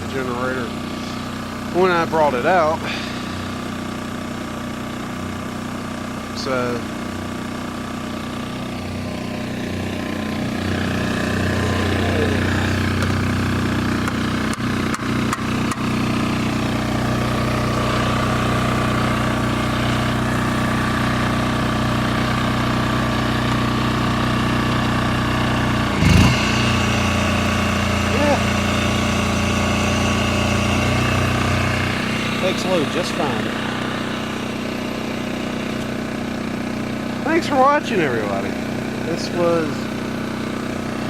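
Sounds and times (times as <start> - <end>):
generator engine running under load: 0.0 - 41.0.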